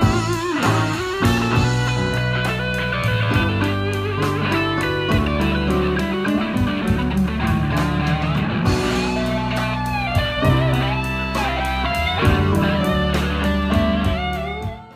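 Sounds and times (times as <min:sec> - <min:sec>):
bass guitar: 0:00.0 - 0:14.9
electric guitar lead: 0:00.0 - 0:14.9
steady drum beat: 0:00.0 - 0:14.9.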